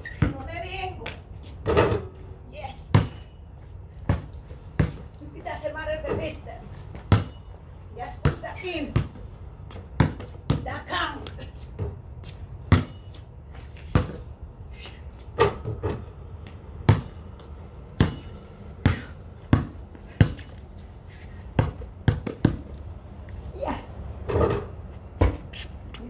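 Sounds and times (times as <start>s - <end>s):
basketball bouncing on concrete: 0.0s - 3.3s, 3.9s - 14.3s, 15.2s - 26.0s.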